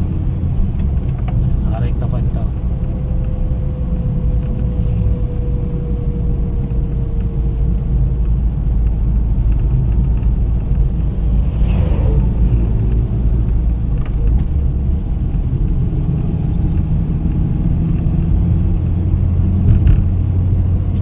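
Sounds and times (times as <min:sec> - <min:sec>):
engine and road rumble in cabin: 0:00.0 - 0:21.0.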